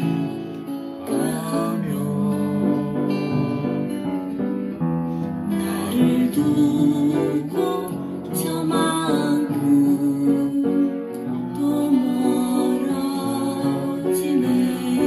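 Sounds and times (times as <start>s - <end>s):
upright piano playing: 0.0s - 15.0s.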